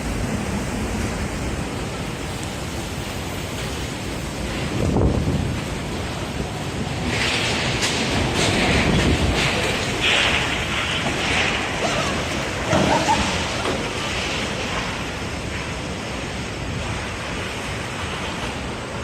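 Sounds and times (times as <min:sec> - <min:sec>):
heavy rain: 0:00.0 - 0:19.0
wind buffeting microphone: 0:00.0 - 0:19.0
wind gusting: 0:00.0 - 0:19.0.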